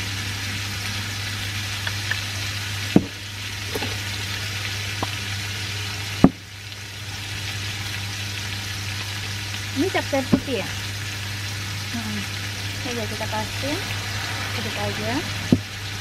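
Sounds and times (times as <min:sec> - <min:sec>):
chicken sizzling in wok: 0:00.0 - 0:16.0
low hum: 0:00.0 - 0:16.0.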